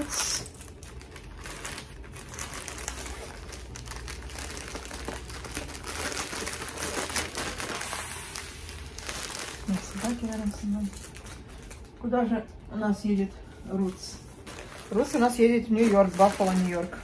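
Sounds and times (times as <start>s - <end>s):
plastic bags and paper crinkling: 0.0s - 12.2s, 13.1s - 17.0s.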